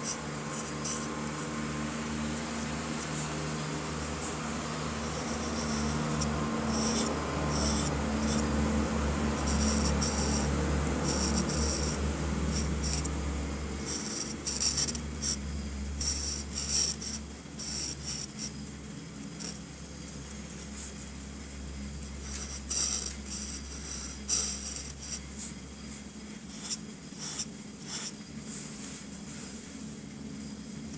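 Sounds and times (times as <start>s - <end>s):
marker scratching on paper: 0.0s - 18.6s, 19.2s - 19.7s, 22.1s - 29.6s
steady low hum: 0.0s - 30.9s.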